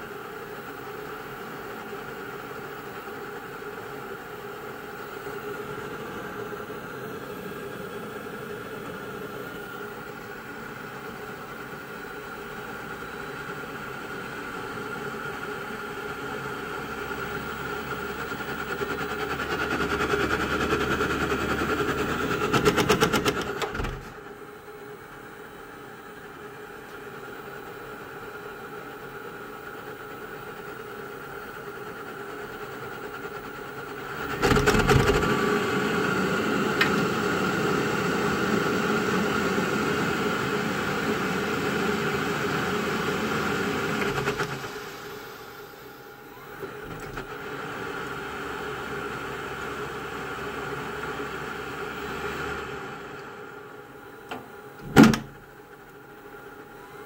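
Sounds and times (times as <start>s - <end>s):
water heater humming and whining: 0.0s - 57.0s.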